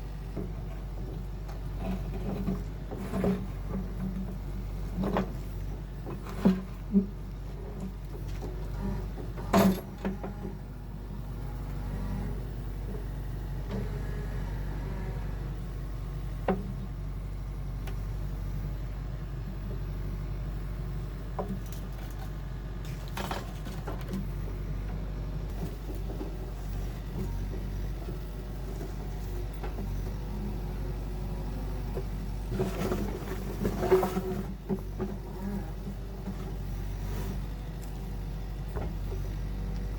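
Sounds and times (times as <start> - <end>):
low motor hum: 0.0 - 39.9.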